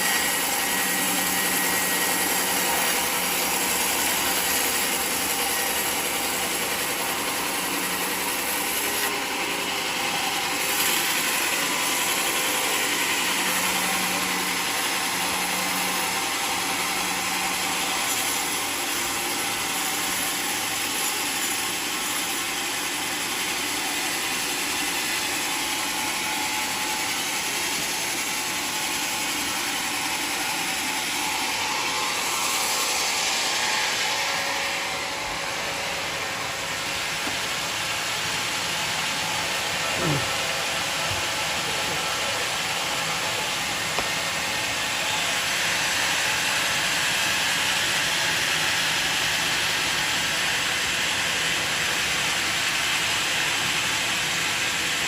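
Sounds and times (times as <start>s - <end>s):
sawmill sawing through log: 0.0s - 55.0s.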